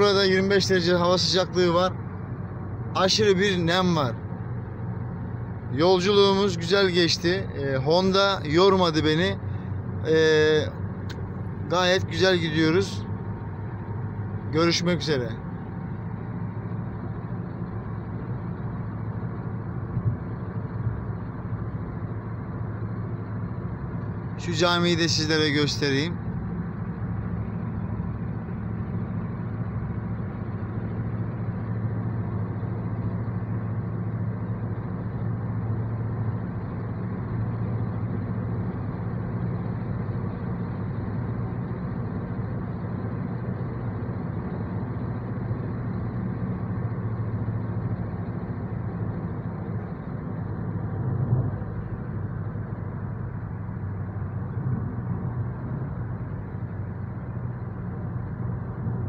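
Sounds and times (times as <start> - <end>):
car interior road drone: 0.0 - 59.0.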